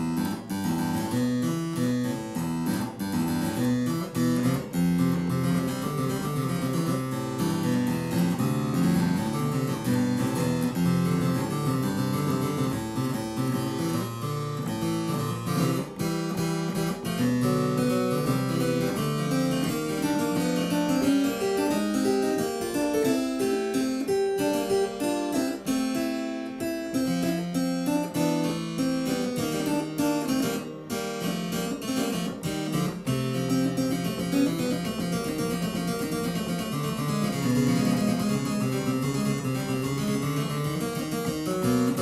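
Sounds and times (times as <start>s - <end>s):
harpsichord playing: 0.0s - 42.0s.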